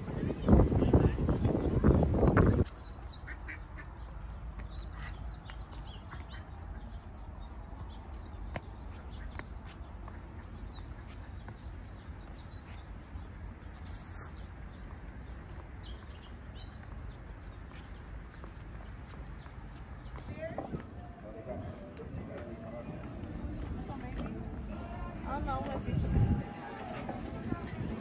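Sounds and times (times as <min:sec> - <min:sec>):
small birds chirping: 0:00.1 - 0:26.0.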